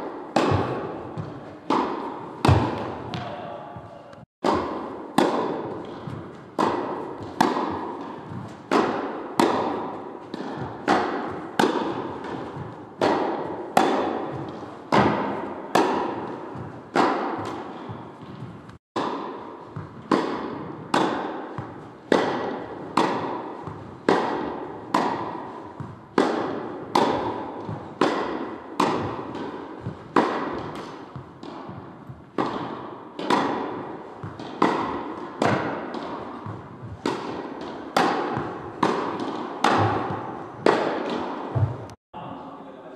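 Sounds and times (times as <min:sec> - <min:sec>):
tennis ball bouncing on court: 0:00.0 - 0:42.0
tennis ball hit by rackets: 0:00.0 - 0:42.0.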